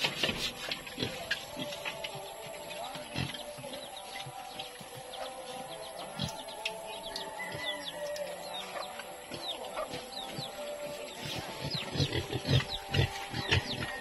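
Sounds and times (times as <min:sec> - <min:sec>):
chickens clucking: 0:00.0 - 0:14.0
small birds chirping: 0:00.9 - 0:14.0.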